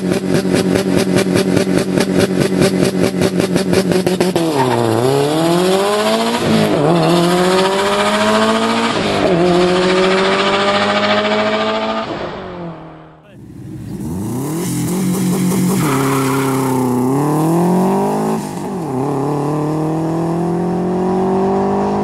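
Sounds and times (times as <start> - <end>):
car engine accelerating through gears: 0.0 - 22.0.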